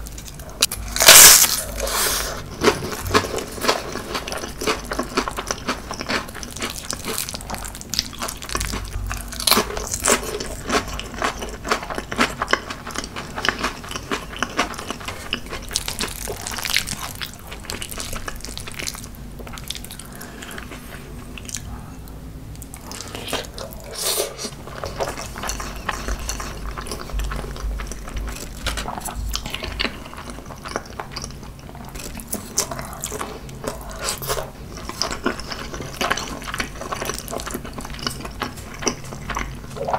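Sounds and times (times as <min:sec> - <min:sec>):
wet chewing and smacking: 0:02.4 - 0:21.7, 0:22.5 - 0:39.9.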